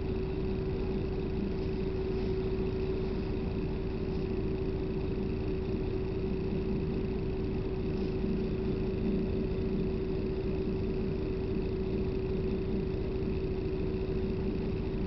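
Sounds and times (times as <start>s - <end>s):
bus engine and road rumble: 0.0s - 15.0s
constant hum: 0.0s - 15.0s.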